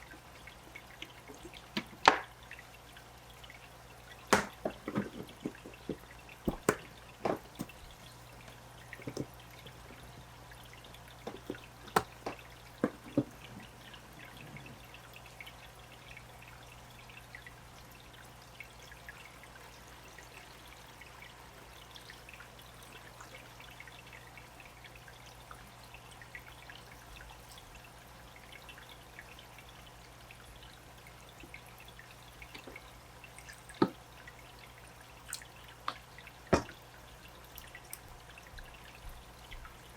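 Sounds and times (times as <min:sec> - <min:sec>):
water drips and splashes: 0:00.0 - 0:39.9
water trickling: 0:00.0 - 0:39.9.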